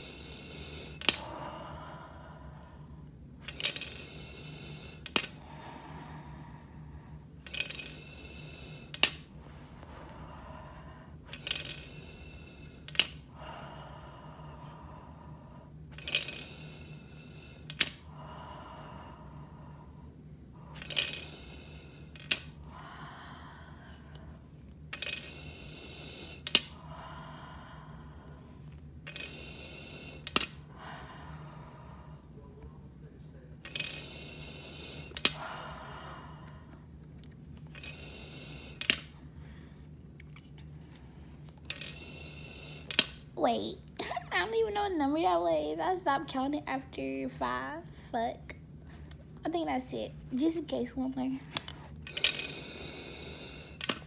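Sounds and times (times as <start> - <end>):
breath hissing through spirometer: 0.0 - 33.0, 33.6 - 37.0, 37.6 - 39.9, 40.6 - 43.9, 48.9 - 54.0
low steady hum: 0.0 - 54.0.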